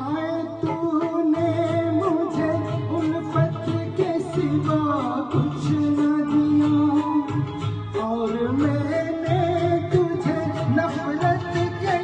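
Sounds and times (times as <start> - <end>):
man singing into a microphone: 0.0 - 12.0
recorded backing music: 0.0 - 12.0.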